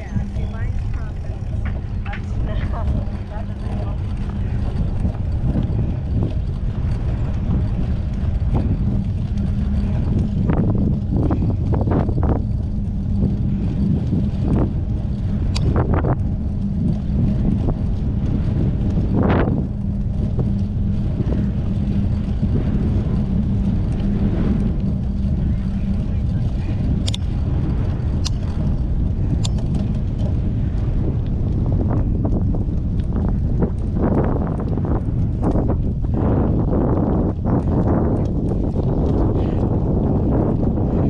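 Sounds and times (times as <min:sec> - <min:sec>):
bike rattles and knocks: 0:00.0 - 0:41.0
wind buffeting microphone: 0:00.0 - 0:41.0.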